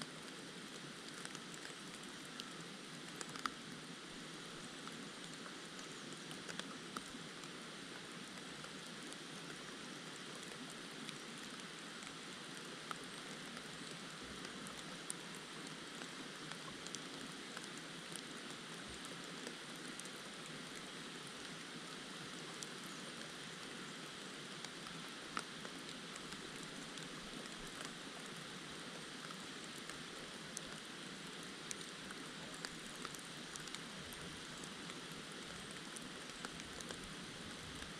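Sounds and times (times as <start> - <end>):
small ticks: 0.1 - 37.9.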